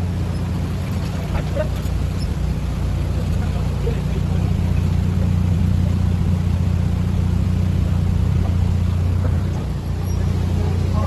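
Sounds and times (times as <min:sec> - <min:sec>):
boat diesel engine idling: 0:00.0 - 0:11.0.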